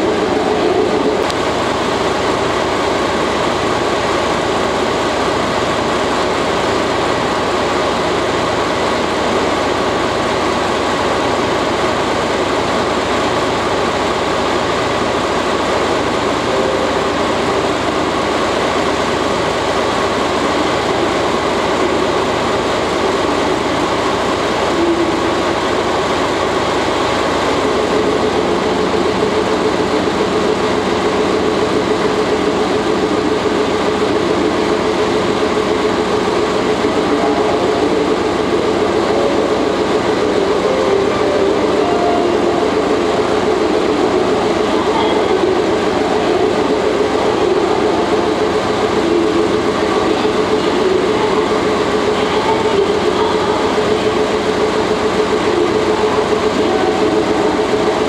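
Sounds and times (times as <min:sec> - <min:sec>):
locomotive engine idling: 0:00.0 - 0:58.0
steady hum: 0:00.0 - 0:58.0.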